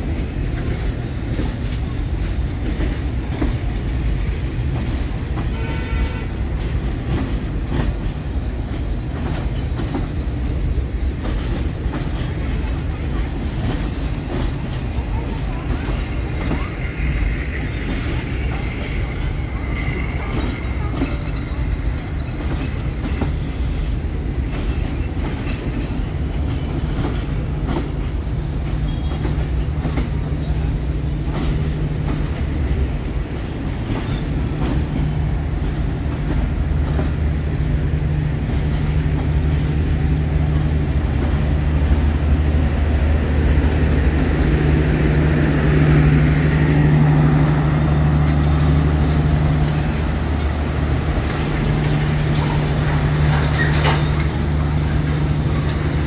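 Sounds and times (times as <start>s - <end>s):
diesel locomotive engine drone: 0.0s - 56.0s
train wheels clicking over rail joints: 0.0s - 56.0s.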